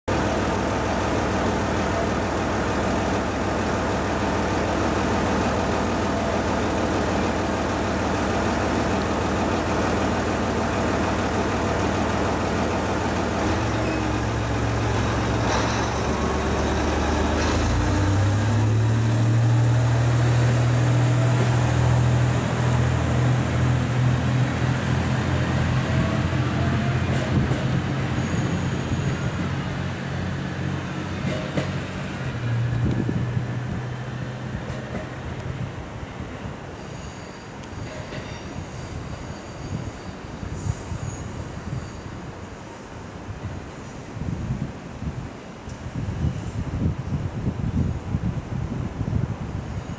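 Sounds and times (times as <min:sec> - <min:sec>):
diesel railcar engine: 0:00.1 - 0:49.9.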